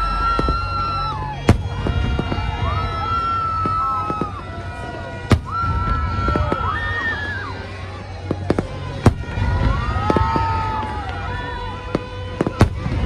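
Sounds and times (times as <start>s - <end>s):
distant explosions rumbling: 0.0s - 13.0s
fireworks bangs: 0.0s - 13.0s.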